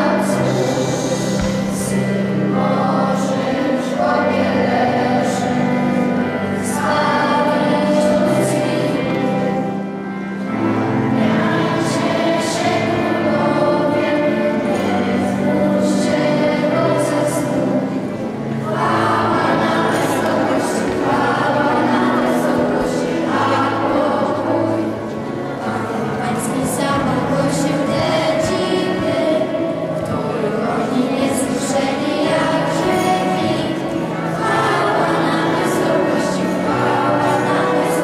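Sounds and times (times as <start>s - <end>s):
children's choir singing a carol: 0.0s - 38.0s.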